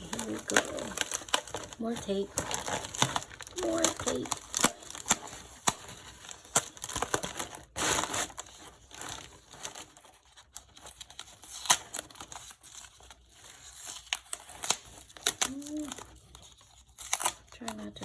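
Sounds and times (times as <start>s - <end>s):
packaging rustle: 0.0s - 18.0s
packing tape tearing: 0.0s - 18.0s.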